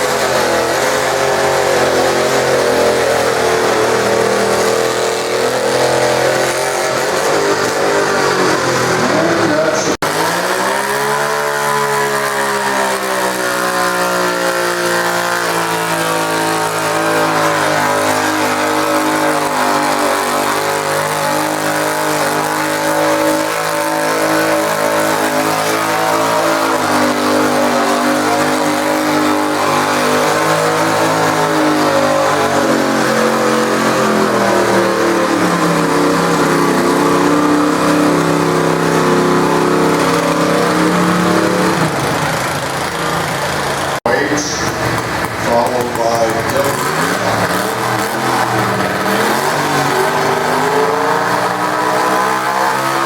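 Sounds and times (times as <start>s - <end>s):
tractor engine at high revs: 0.0s - 53.0s.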